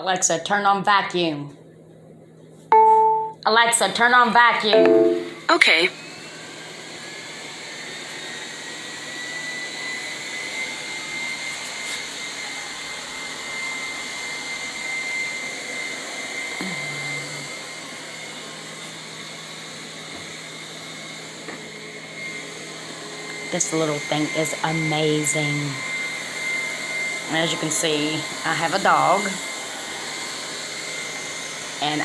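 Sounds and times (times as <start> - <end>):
thin high motor whine: 4.9 - 32.0
robot vacuum whirring: 6.0 - 32.0.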